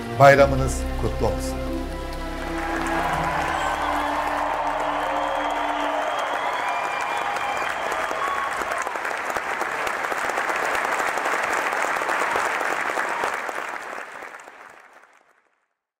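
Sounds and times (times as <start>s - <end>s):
crowd applauding: 1.8s - 15.6s.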